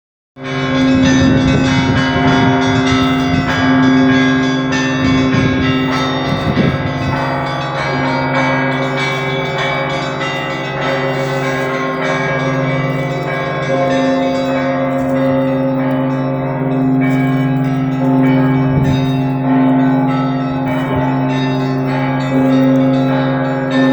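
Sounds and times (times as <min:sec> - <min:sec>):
church bells ringing: 0:00.4 - 0:23.9
great bell humming: 0:00.4 - 0:23.9.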